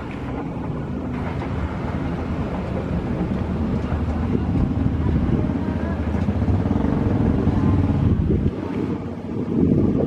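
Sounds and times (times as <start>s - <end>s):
diesel train engine rumble: 0.0s - 8.5s.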